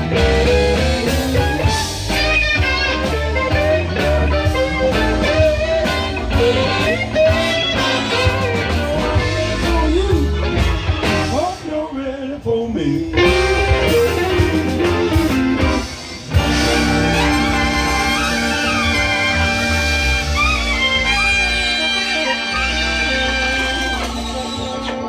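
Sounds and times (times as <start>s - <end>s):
live blues band playing: 0.0s - 25.0s
sustained horn notes: 0.1s - 11.6s, 13.2s - 25.0s.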